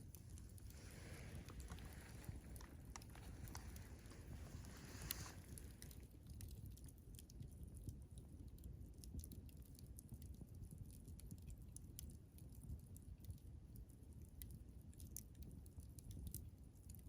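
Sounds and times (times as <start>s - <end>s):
campfire crackling and popping: 0.0s - 17.0s
low steady fire rumble: 0.0s - 17.0s.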